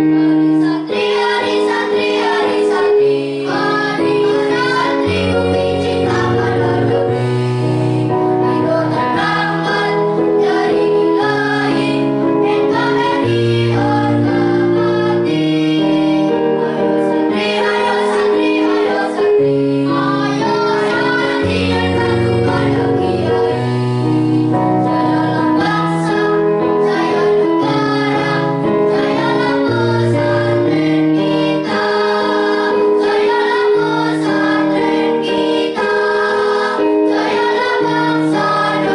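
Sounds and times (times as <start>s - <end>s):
children's choir singing: 0.0s - 38.9s
instrumental accompaniment: 0.0s - 38.9s.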